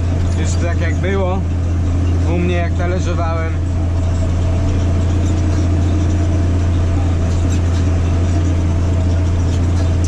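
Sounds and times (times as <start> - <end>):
tractor engine under load: 0.0 - 10.0.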